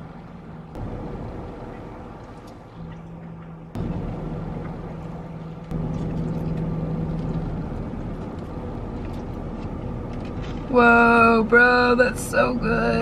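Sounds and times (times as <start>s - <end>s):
car engine idling: 0.0s - 13.0s
low hum: 0.0s - 13.0s.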